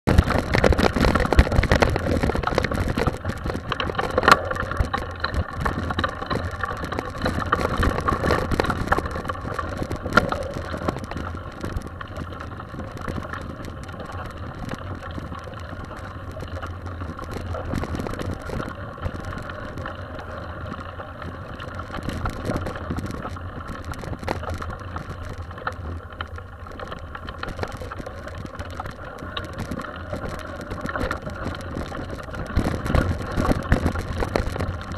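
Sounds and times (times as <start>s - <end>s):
bike rattling over bumps: 0.0s - 34.9s
bike tyres on dirt and gravel: 0.0s - 34.9s
steady low rumble: 0.0s - 34.9s.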